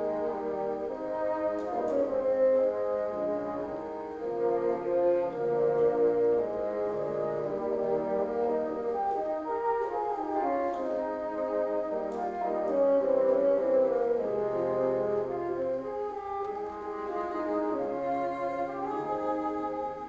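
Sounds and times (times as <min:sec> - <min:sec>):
bassoon quartet playing: 0:00.0 - 0:20.0.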